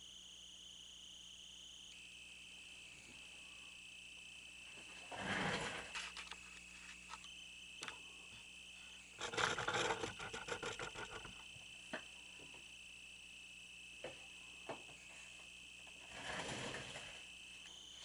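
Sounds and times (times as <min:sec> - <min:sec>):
high-pitched whine: 0:00.0 - 0:18.0.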